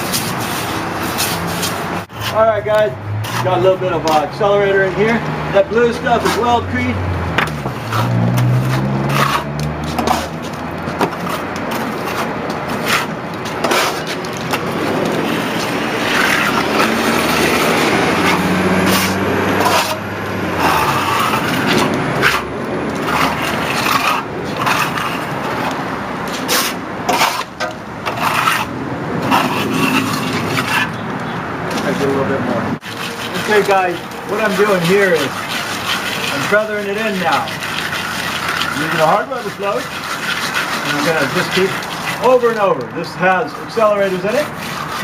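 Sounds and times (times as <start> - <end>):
plastering tool scraping: 0.0 - 6.8, 7.4 - 31.0, 32.8 - 45.0.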